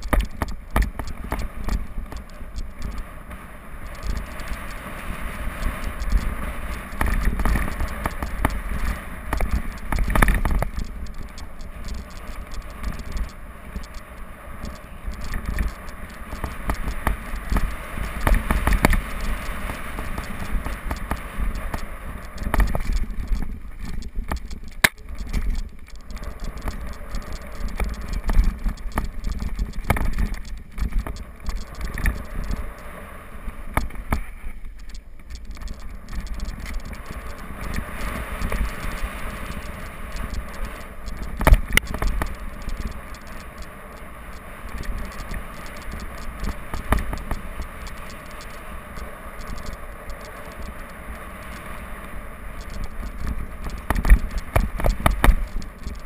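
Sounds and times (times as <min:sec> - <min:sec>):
bike rattling: 0:00.0 - 0:56.0.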